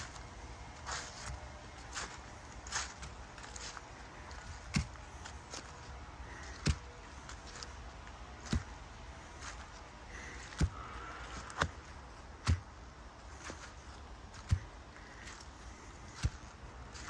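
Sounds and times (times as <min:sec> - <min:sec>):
footsteps on fallen leaves: 0:00.0 - 0:17.0.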